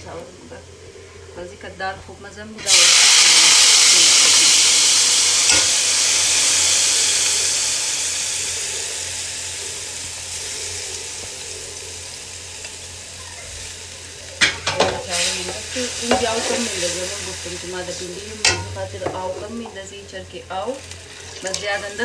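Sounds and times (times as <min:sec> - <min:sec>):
rice sizzling in hot oil: 0:02.6 - 0:22.0.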